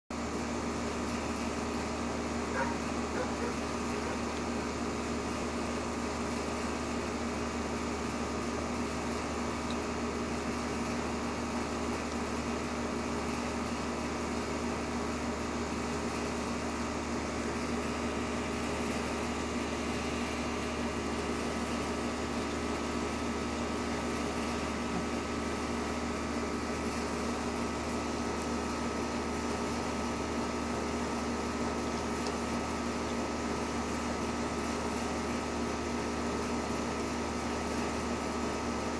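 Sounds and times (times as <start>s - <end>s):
steady mechanical hum: 0.1s - 38.9s.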